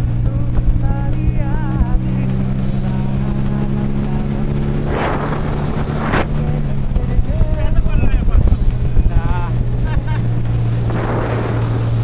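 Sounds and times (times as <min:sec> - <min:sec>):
boat motor running: 0:00.0 - 0:12.0
rushing noise: 0:01.8 - 0:12.0.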